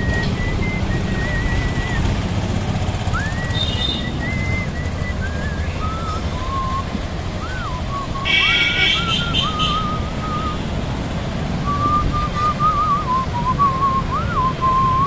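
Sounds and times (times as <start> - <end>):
person whistling a tune: 0.0 - 2.2, 3.1 - 10.7, 11.6 - 15.0
wind and road noise: 0.0 - 15.0.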